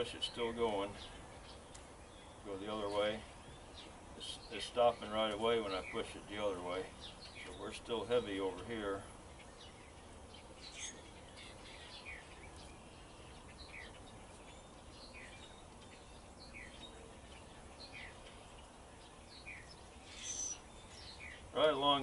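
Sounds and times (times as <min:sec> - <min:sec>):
background hiss: 0:00.0 - 0:22.0
bird chirping: 0:00.0 - 0:22.0.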